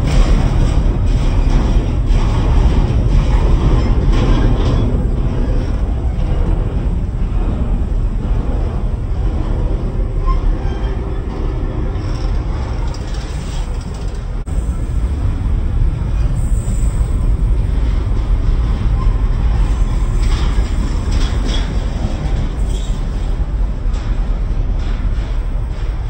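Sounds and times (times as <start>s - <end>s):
train cars clattering: 0.0s - 26.0s
train wheels rumbling on rails: 0.0s - 26.0s.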